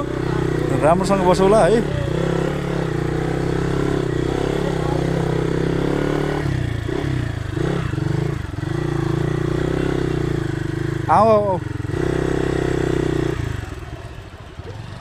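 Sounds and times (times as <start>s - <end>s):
motorcycle engine under load: 0.0s - 15.0s.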